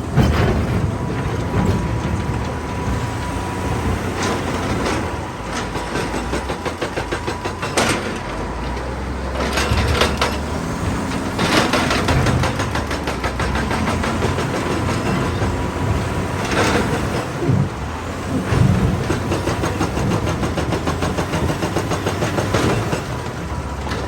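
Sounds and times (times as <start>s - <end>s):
excavator diesel engine: 0.0s - 24.0s
rock and steel clattering: 0.0s - 24.0s.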